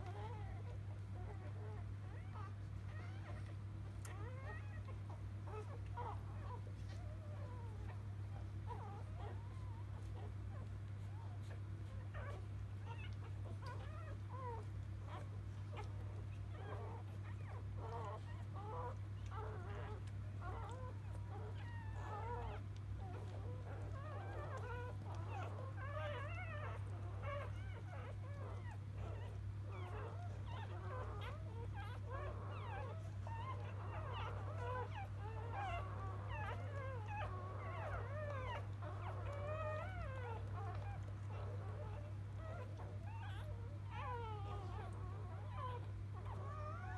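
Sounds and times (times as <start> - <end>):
puppy squeaking and whimpering: 0.0 - 46.9.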